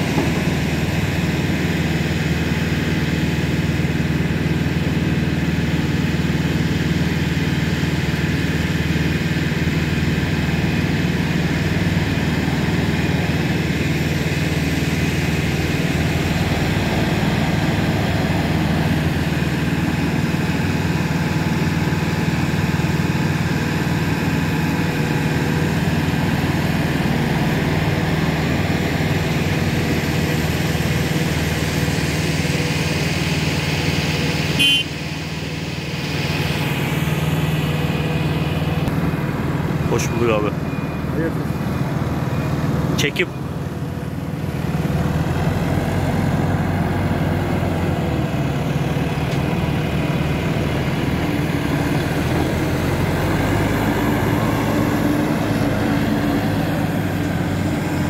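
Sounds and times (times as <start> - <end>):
backhoe loader diesel engine: 0.0 - 58.0.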